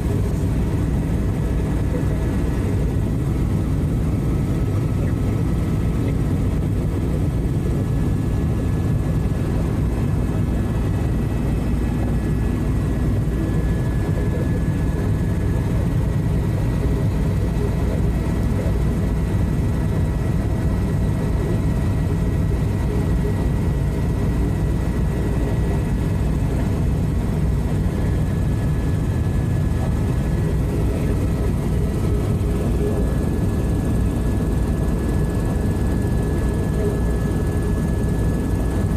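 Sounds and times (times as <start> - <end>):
faint high whine: 0.0 - 38.9
helicopter rotor and engine drone: 0.0 - 38.9.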